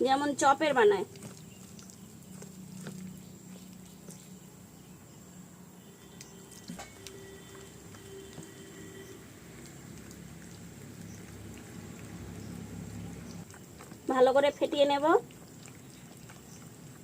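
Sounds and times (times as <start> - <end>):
batter being mixed in a bowl: 0.0 - 4.8, 6.2 - 17.0.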